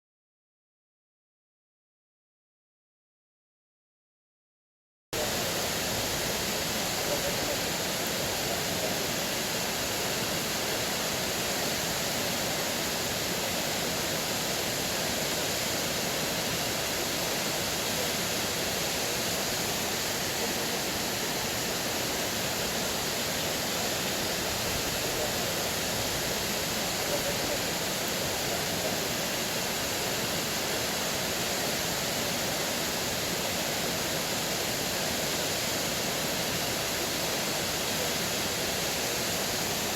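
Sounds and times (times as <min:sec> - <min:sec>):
waterfall rushing: 0:05.2 - 0:39.9.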